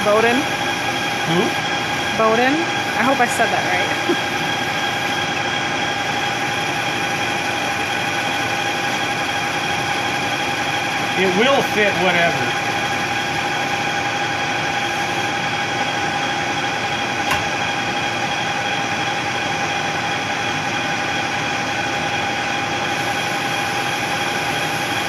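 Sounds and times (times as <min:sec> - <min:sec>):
machine tool running: 0:00.0 - 0:25.0.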